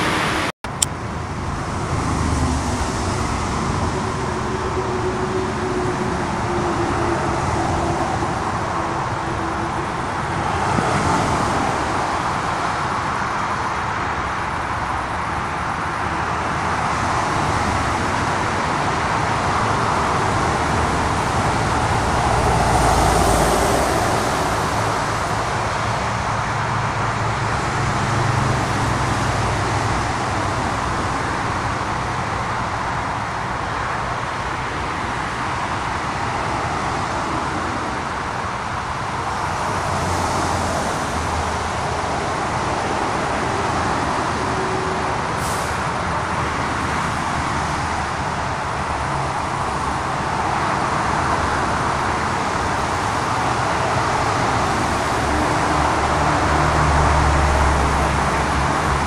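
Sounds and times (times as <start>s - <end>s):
road traffic: 0.0s - 59.0s
vehicles passing: 0.0s - 59.0s.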